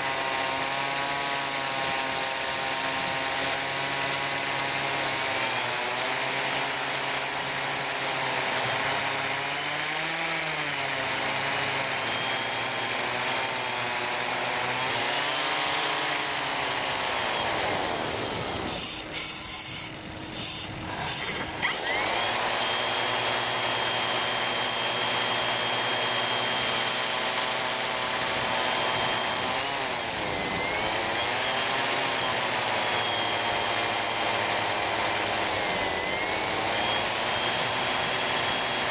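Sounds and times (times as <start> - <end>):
small motors and propellers whirring: 0.0 - 38.9.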